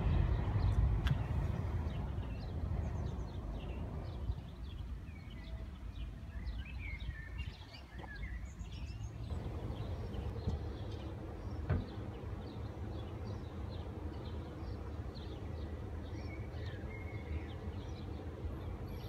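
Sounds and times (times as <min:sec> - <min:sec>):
low steady rumble: 0:00.0 - 0:05.8, 0:08.6 - 0:19.0
birds chirping and singing: 0:00.0 - 0:19.0.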